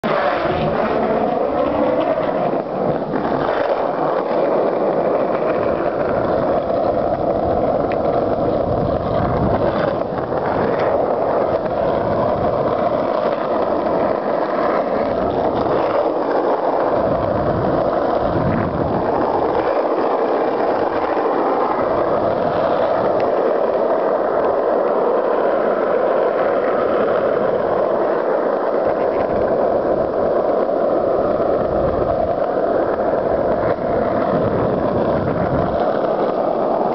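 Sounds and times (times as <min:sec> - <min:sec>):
steady rushing noise: 0:00.0 - 0:36.9
wind buffeting microphone: 0:00.0 - 0:36.9.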